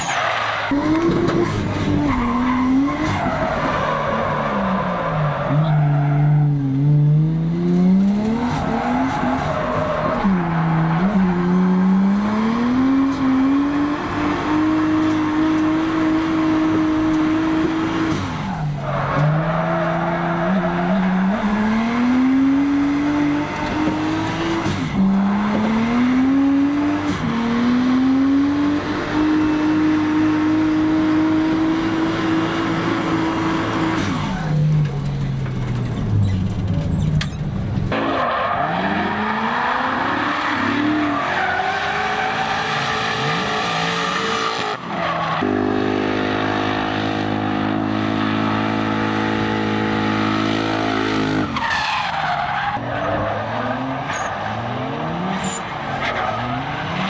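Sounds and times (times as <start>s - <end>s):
car engine revving: 0.0s - 35.8s, 37.9s - 57.0s
tyres skidding: 0.0s - 57.0s.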